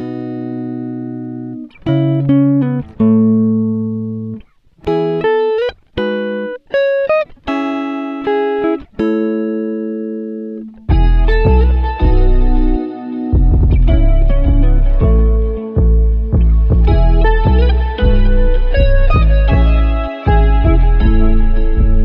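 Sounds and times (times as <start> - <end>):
plucked guitar chords: 0.0 - 22.0.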